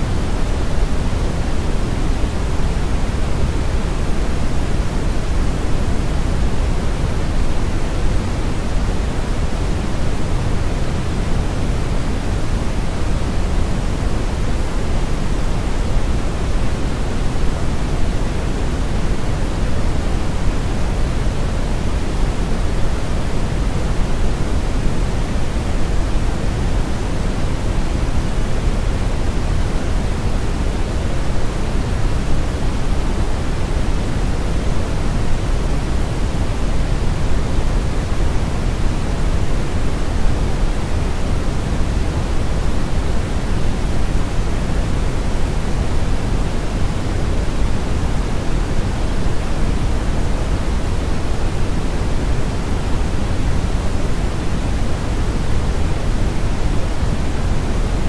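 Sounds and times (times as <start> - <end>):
brown noise rumble: 0.0 - 58.0.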